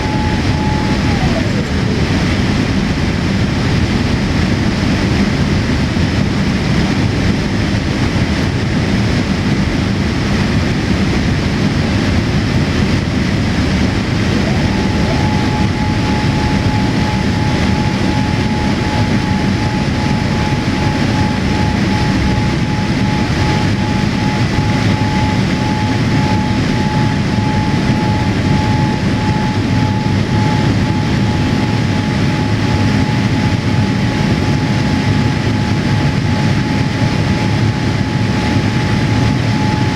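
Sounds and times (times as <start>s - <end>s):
airliner cabin noise: 0.0s - 39.9s
thin steady whine: 0.0s - 39.9s.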